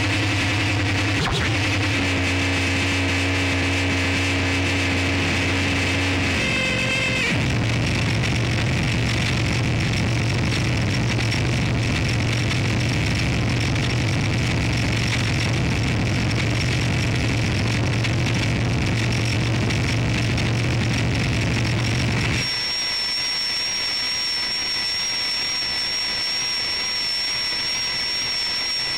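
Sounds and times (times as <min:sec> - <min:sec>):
electronic drone with low hum: 0:00.0 - 0:28.9.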